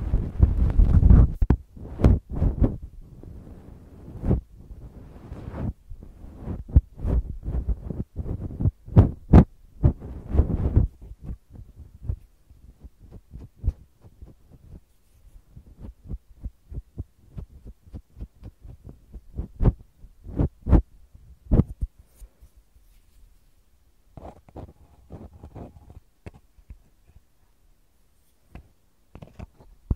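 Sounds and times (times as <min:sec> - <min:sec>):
brush patting a microphone: 0:00.0 - 0:27.3, 0:28.1 - 0:29.7.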